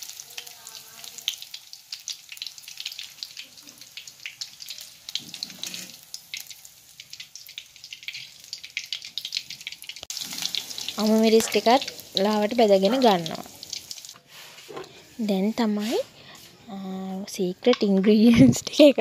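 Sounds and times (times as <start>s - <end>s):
onions sizzling in hot oil: 0.0s - 16.1s.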